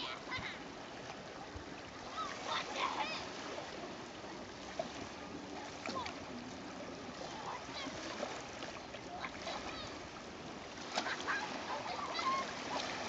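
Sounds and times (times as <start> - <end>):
sea lapping over rocks: 0.4 - 13.0.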